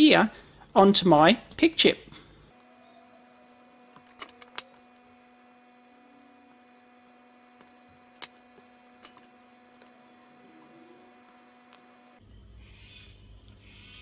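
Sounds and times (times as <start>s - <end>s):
mains hum: 0.0s - 14.0s.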